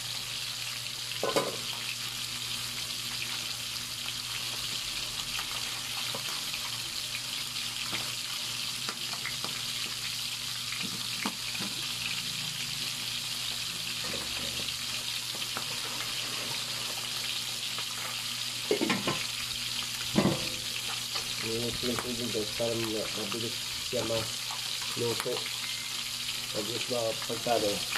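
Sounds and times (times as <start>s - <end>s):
fish sizzling in oil: 0.0s - 27.9s.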